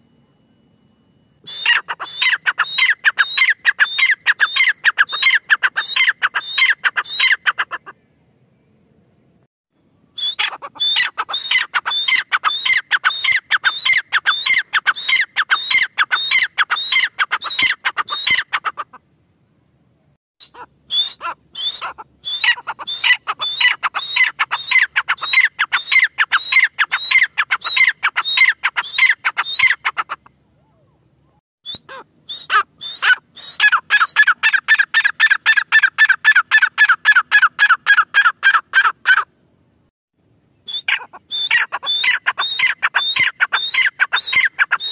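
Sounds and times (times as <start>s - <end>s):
francolin calling: 1.4s - 8.0s, 10.2s - 19.0s, 20.4s - 39.4s, 40.7s - 44.9s.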